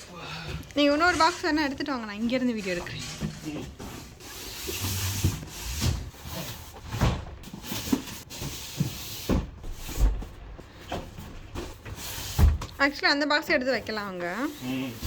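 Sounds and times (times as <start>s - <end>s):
boxes and furniture scraping: 0.4s - 15.0s.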